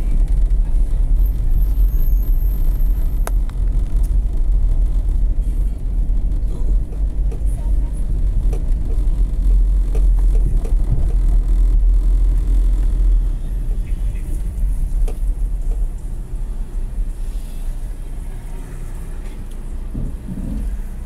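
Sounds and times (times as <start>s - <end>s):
car engine and tyres rumble: 0.0s - 21.0s.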